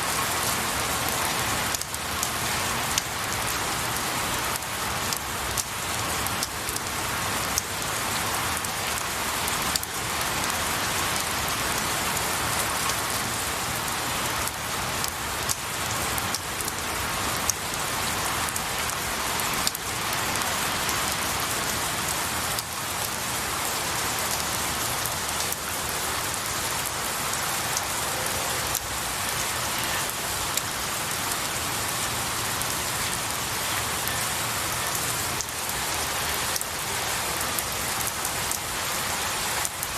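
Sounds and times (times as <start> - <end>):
rain falling on pine needles: 0.0 - 39.9.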